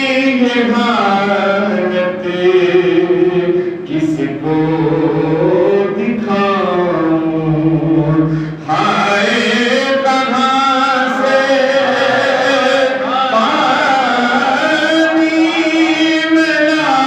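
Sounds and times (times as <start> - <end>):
man singing unaccompanied: 0.0 - 17.0
second man singing: 0.0 - 17.0.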